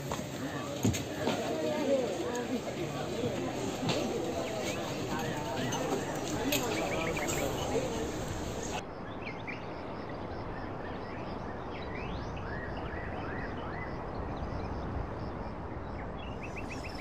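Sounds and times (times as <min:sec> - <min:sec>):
outdoor background noise: 0:00.0 - 0:17.0
birds chirping: 0:00.4 - 0:17.0.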